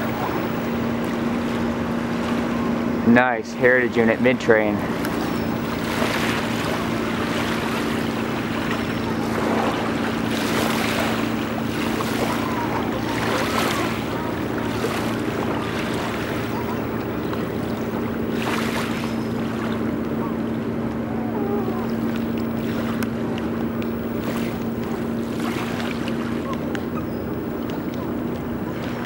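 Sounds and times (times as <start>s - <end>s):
diesel locomotives droning: 0.0s - 29.0s.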